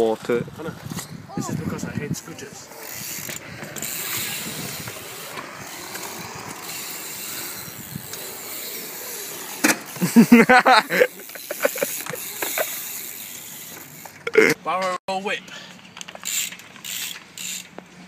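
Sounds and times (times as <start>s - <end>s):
bike tyres rolling on concrete: 0.0s - 14.5s.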